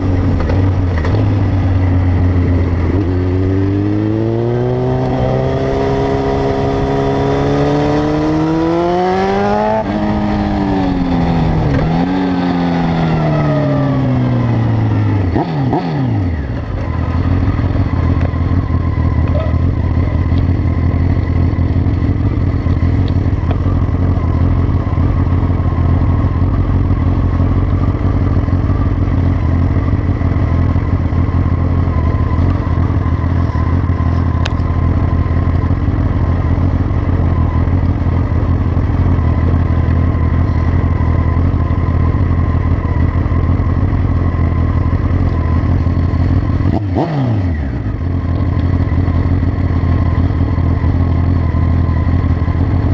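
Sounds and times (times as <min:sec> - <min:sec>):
motorcycle engine idling: 0:00.0 - 0:08.4, 0:09.6 - 0:52.9
motorcycle engine revving: 0:00.0 - 0:52.9.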